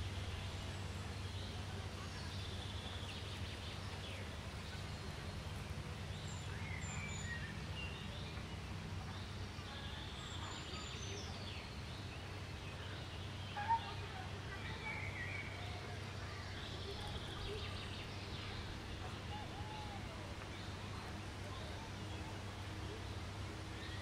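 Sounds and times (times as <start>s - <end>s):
low outdoor hum: 0.0s - 24.0s.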